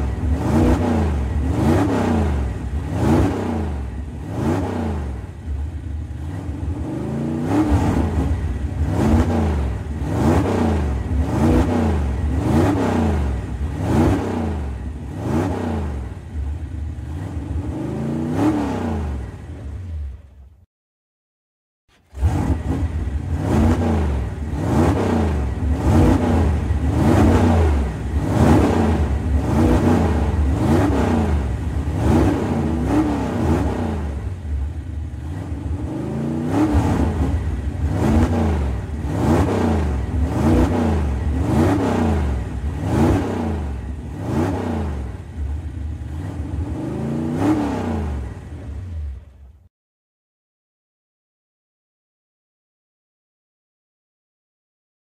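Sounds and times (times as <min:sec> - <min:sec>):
engine revving: 0:00.0 - 0:20.3, 0:21.9 - 0:49.4.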